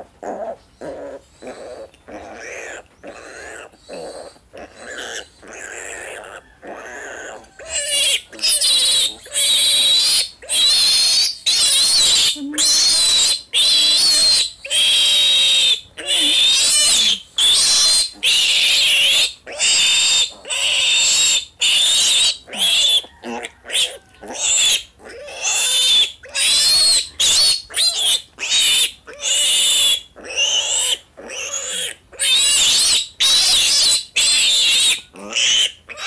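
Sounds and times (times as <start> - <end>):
piglet squealing: 0.0 - 36.0.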